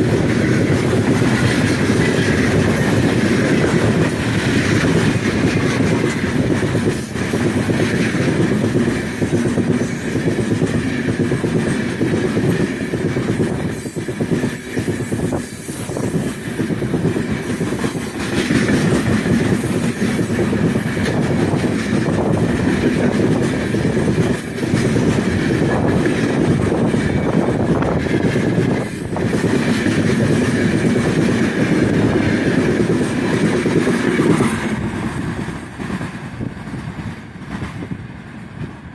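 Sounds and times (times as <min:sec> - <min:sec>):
wheels clattering over rail joints: 0:00.0 - 0:36.4
freight train wheels rumbling: 0:00.0 - 0:38.9.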